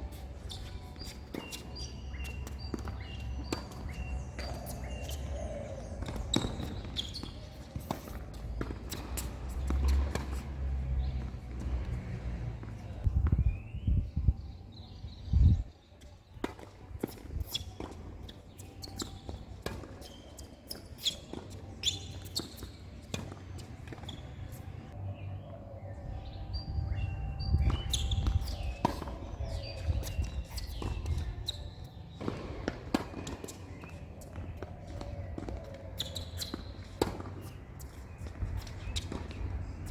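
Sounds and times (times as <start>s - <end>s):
tennis balls bouncing and struck: 0.0s - 13.6s, 16.0s - 25.0s, 26.9s - 39.9s.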